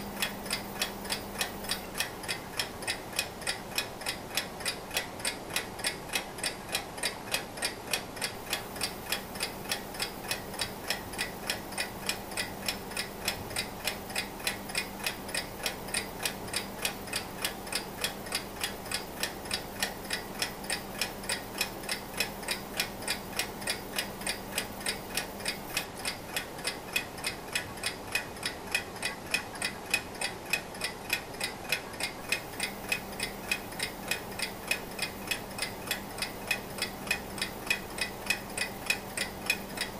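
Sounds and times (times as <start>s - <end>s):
alarm clock ticking: 0.0s - 39.9s.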